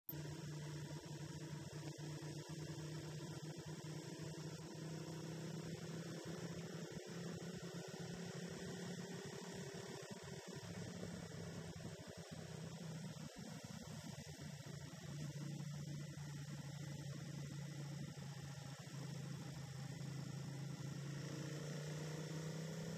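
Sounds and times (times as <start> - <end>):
steady low hum with hiss: 0.1 - 22.9.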